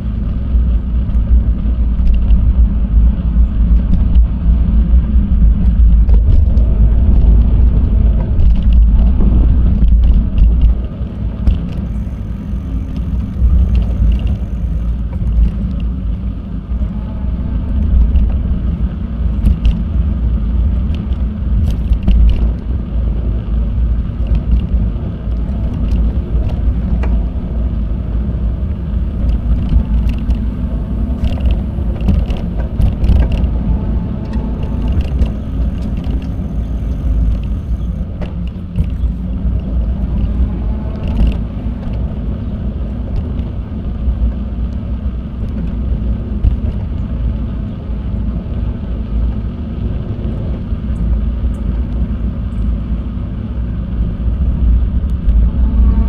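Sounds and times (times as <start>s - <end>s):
bicycle clicks and rattles: 0.0s - 4.3s, 5.0s - 16.9s, 17.6s - 47.3s
wind and tyre rumble: 0.0s - 56.0s.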